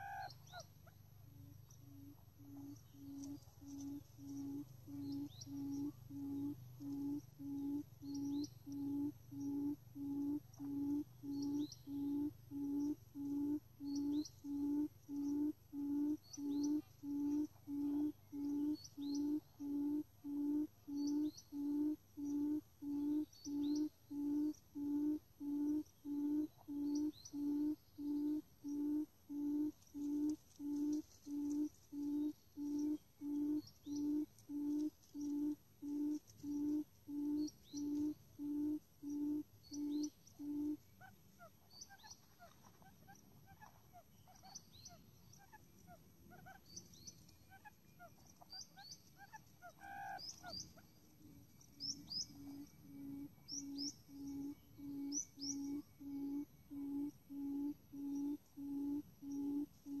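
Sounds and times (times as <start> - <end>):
quail call low hoot: 0.0 - 46.6, 49.2 - 50.6, 51.8 - 60.0
small birds chirping: 0.0 - 60.0.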